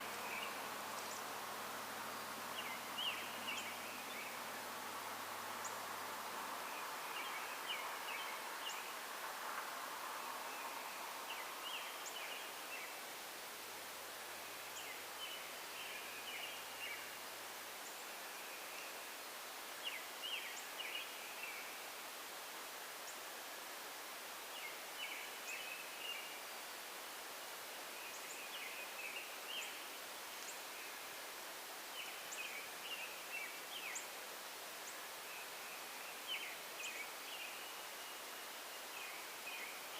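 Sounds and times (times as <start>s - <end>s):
songbird singing: 0.0s - 13.1s, 14.3s - 21.9s, 24.4s - 26.8s, 27.4s - 39.9s.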